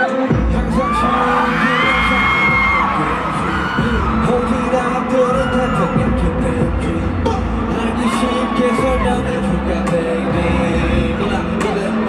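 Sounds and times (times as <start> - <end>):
high sung or shouted glides: 0.0 - 12.0
live pop music over sound system: 0.0 - 12.0
heavy bass beat: 0.3 - 12.0.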